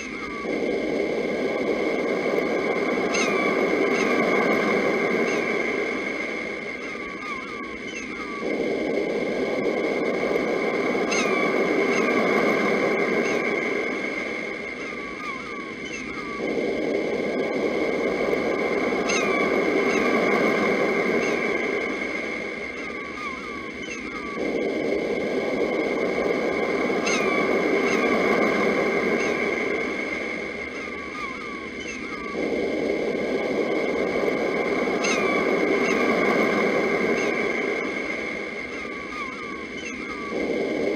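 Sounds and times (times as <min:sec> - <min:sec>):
sea waves washing: 0:00.0 - 0:40.9
small birds chirping: 0:00.0 - 0:40.9
steady high-pitched hum: 0:00.0 - 0:40.9.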